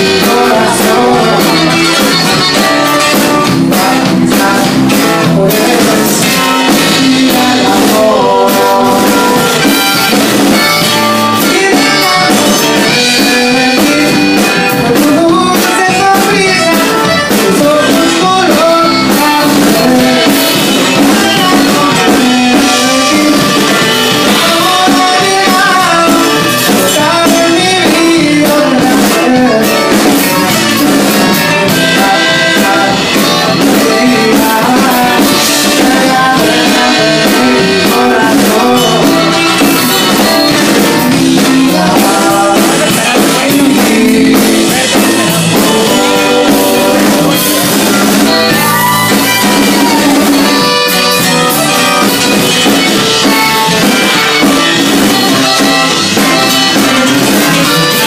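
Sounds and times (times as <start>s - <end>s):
accordion: 0.0s - 58.0s
congas: 0.0s - 58.0s
drum kit: 0.0s - 58.0s
electric guitar: 0.0s - 58.0s
live band playing: 0.0s - 58.0s.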